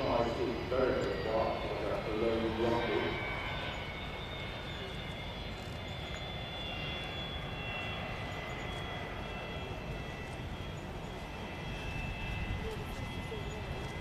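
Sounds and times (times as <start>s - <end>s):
high whining tones: 0.0s - 14.0s
jet engines rumbling: 0.0s - 14.0s.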